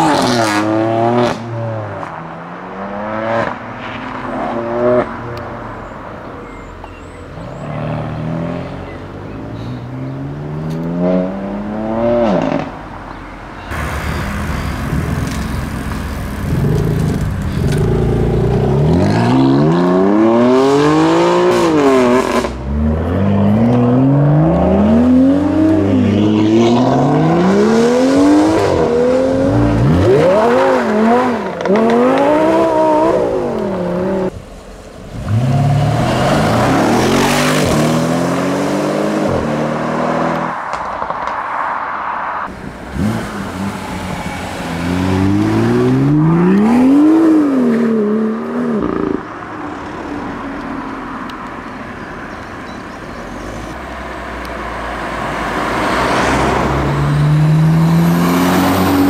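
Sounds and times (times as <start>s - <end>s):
sports car engines accelerating: 0.0s - 59.0s.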